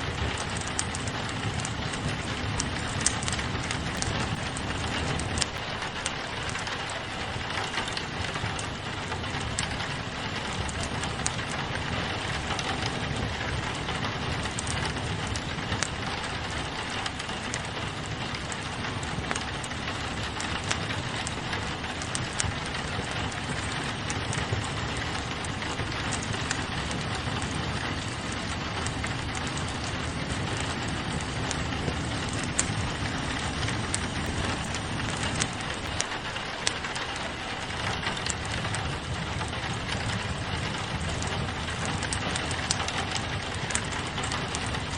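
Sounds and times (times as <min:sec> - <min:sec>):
rain hissing against window: 0:00.0 - 0:44.9
wood fire crackling: 0:00.0 - 0:44.9.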